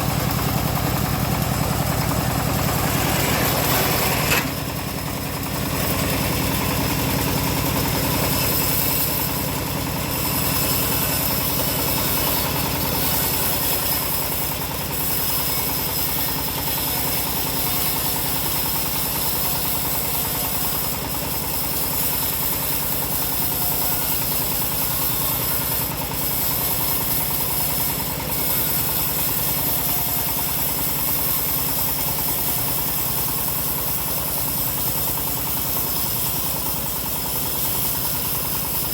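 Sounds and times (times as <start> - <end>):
band sawmill motor drone: 0.0 - 38.9.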